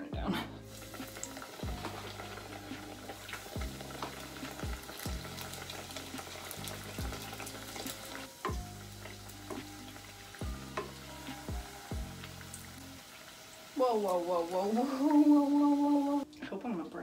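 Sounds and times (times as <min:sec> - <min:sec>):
soft background music: 0:00.0 - 0:17.0
dough sizzling in hot oil: 0:00.6 - 0:16.3.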